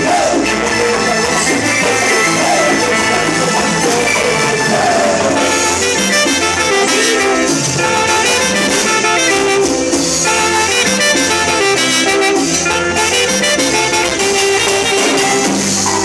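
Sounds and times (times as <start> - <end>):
band playing cumbia: 0.0 - 16.0
saxophone lines: 0.0 - 16.0.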